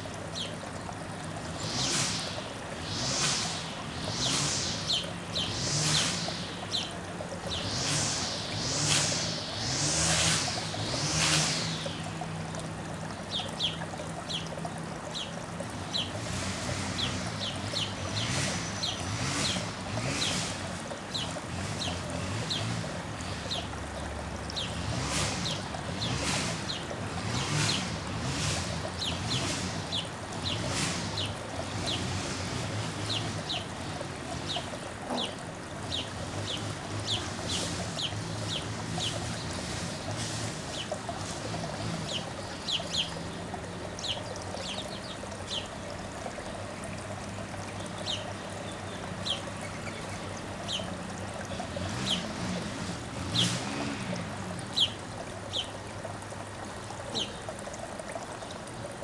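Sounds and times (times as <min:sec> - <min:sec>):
small birds chirping: 0:00.3 - 0:16.2, 0:16.9 - 0:27.9, 0:28.5 - 0:32.2, 0:33.0 - 0:47.0, 0:47.6 - 0:52.4, 0:54.6 - 0:55.8, 0:56.6 - 0:57.7.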